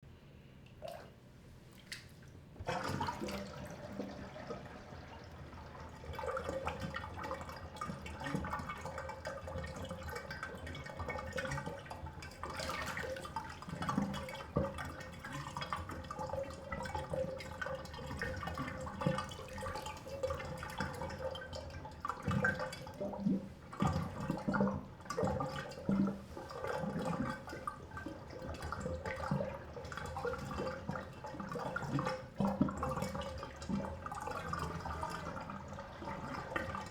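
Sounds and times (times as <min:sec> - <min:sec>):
bathtub water gurgling down drain: 0:00.7 - 0:36.9.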